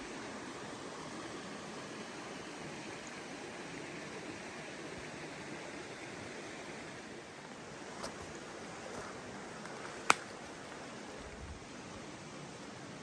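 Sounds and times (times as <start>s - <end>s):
running water: 0.0s - 11.6s.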